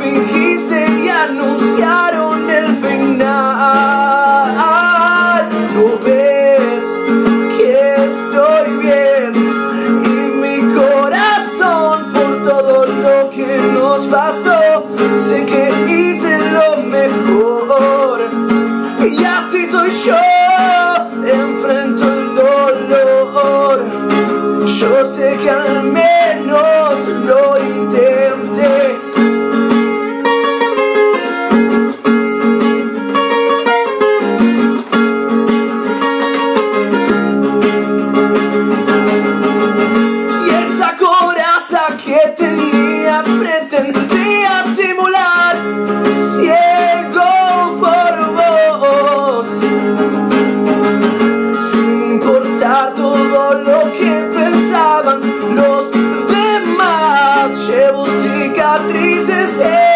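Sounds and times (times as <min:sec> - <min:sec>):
man singing: 0:00.0 - 0:31.7, 0:38.9 - 0:59.9
acoustic guitar: 0:00.0 - 0:59.9.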